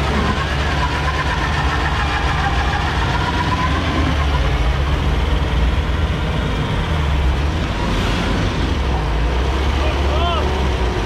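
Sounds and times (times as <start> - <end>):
diesel engine running under load: 0.0 - 11.0
tyres spinning in dirt: 0.0 - 11.0.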